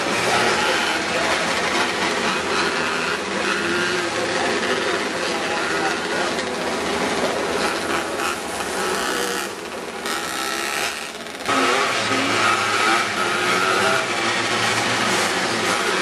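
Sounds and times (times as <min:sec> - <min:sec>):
engines running: 0:00.0 - 0:16.0.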